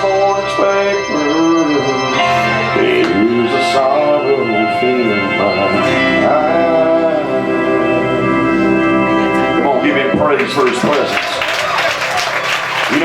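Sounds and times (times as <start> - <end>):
person singing wordless lines: 0.0 - 11.1
church organ chords: 0.0 - 13.0.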